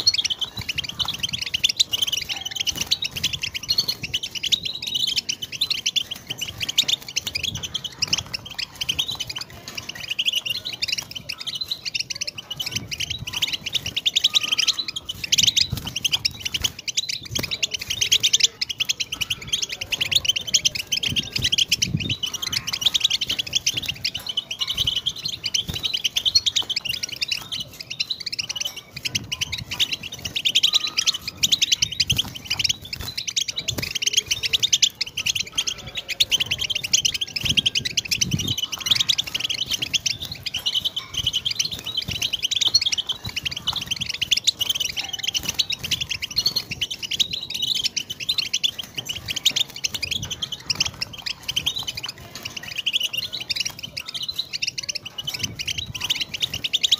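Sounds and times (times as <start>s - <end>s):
goldfinch twittering song: 0.0s - 56.9s.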